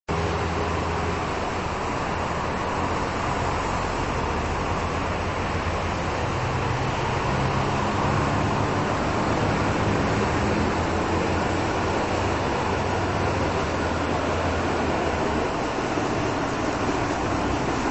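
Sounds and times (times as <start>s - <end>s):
diesel railcar engine hum: 0.1s - 17.9s
steady background noise: 0.1s - 17.9s.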